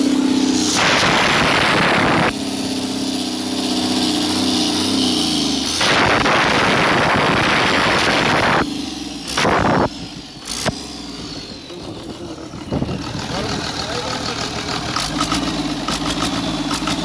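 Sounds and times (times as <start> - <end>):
engine idling and revving: 0.0 - 17.0.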